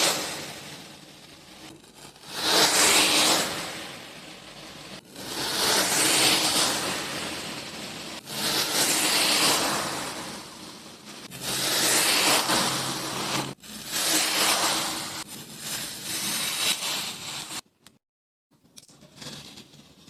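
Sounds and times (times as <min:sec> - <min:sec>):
gritty sand hissing: 0:00.0 - 0:17.6.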